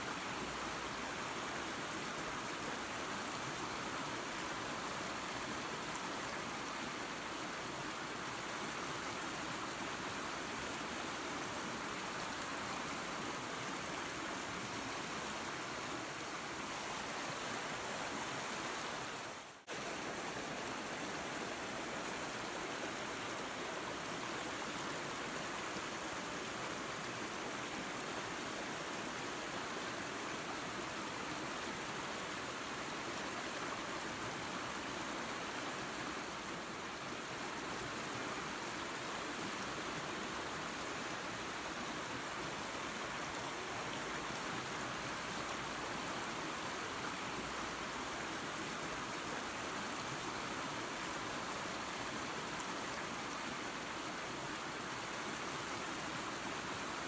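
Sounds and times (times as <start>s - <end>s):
waterfall and creek rushing: 0.0s - 57.0s.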